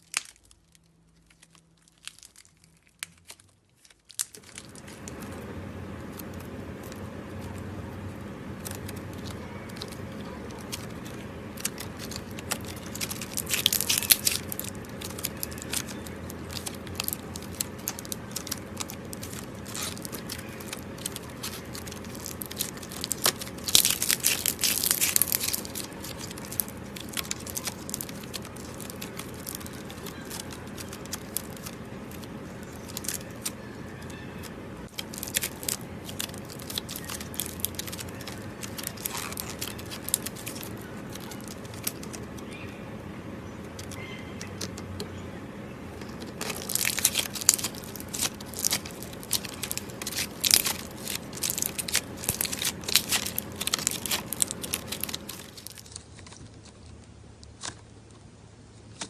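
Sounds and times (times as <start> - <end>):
slime popping and crackling: 0.0 - 42.8, 46.0 - 57.8.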